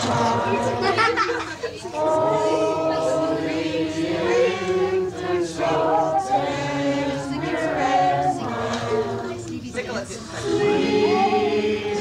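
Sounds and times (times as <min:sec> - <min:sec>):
group singing a carol: 0:00.0 - 0:12.0.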